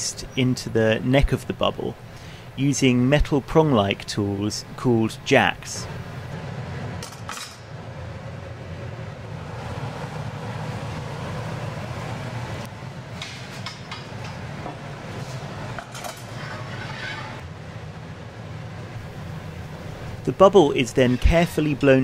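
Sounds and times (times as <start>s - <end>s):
low workshop hum: 0.0s - 22.0s.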